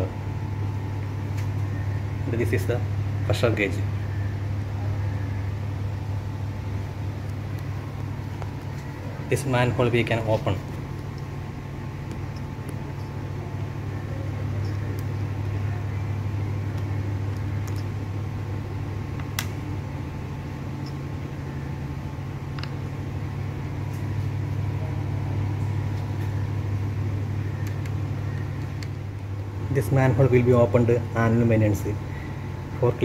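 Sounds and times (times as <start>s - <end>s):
faint steady whine: 0.0s - 33.0s
low machinery hum: 0.0s - 33.0s.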